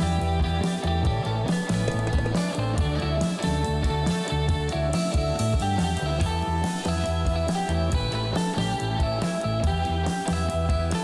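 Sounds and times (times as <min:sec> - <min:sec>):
rock guitar: 0:00.0 - 0:11.0
steady bass line: 0:00.0 - 0:11.0.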